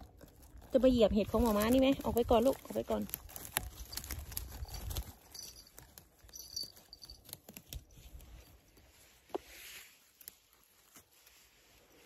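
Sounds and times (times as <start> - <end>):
twigs and leaves rustling: 0.0 - 12.0.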